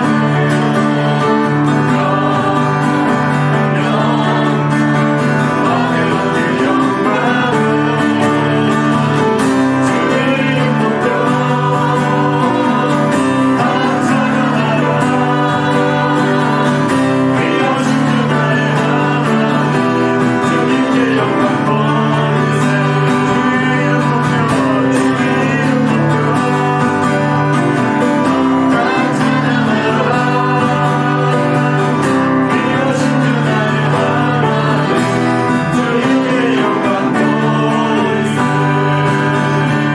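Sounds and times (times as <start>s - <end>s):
group singing a worship song: 0.0s - 39.9s
instrumental accompaniment: 0.0s - 39.9s.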